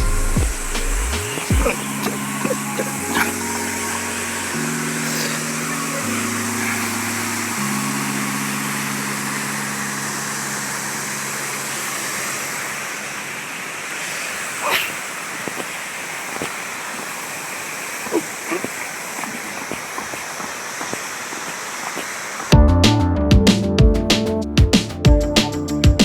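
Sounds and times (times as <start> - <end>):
water rushing through dam gates: 0.9 - 22.5.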